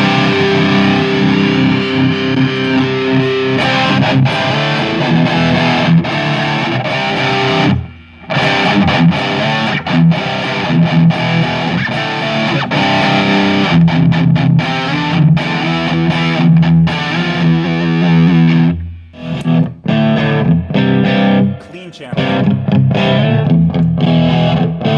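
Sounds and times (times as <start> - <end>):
distorted electric guitar riffs: 0.0 - 24.9.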